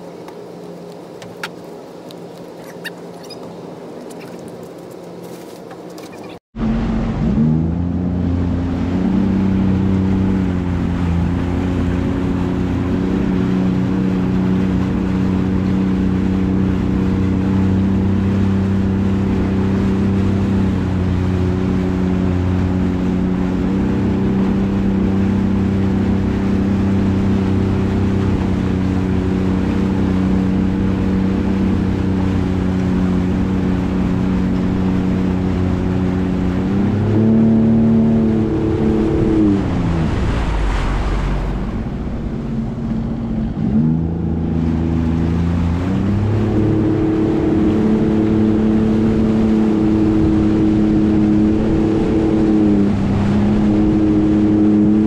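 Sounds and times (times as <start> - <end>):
watercraft engine droning: 0.0 - 55.0.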